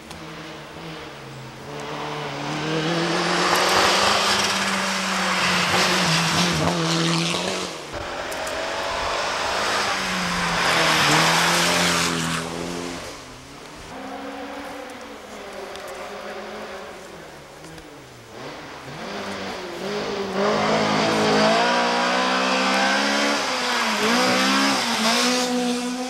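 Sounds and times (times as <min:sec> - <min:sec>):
rally car engine at high revs: 0:00.0 - 0:26.0.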